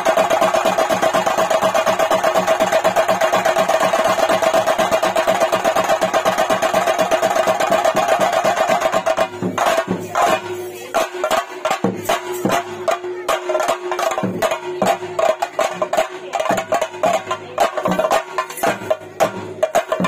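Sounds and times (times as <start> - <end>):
drums and cymbals beating: 0.0 - 20.0.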